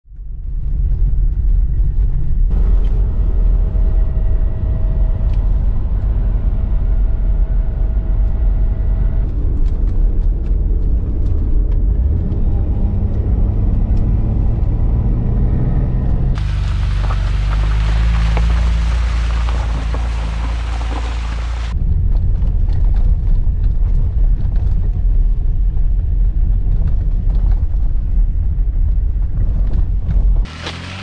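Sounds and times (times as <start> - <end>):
car road and engine rumble: 0.1 - 31.0.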